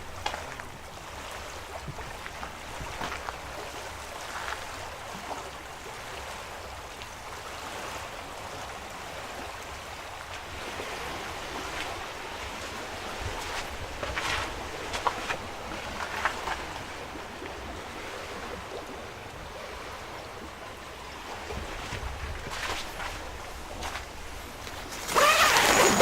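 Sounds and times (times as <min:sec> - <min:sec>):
wind rumbling on microphone: 0:00.0 - 0:05.6, 0:09.9 - 0:26.0
small waves lapping: 0:00.0 - 0:26.0.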